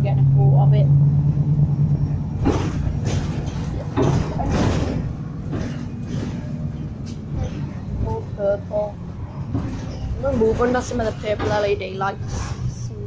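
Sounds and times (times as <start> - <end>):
bus interior hum: 0.0 - 13.0
clattering knocks and rattles: 1.7 - 12.8.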